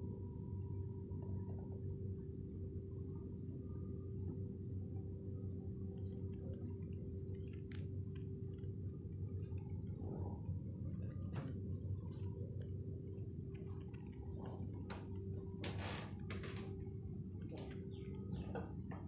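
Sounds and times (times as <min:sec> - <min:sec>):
faint constant tone: 0:00.0 - 0:19.0.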